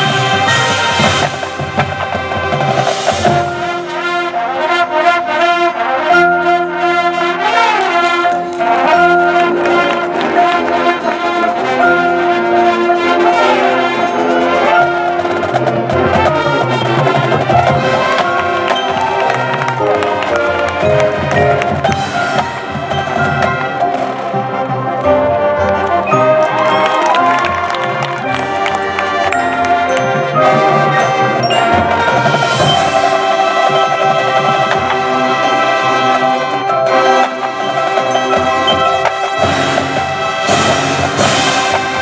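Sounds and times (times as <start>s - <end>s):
percussion hits: 0.0s - 6.4s, 7.7s - 42.0s
marching band brass playing: 0.0s - 42.0s.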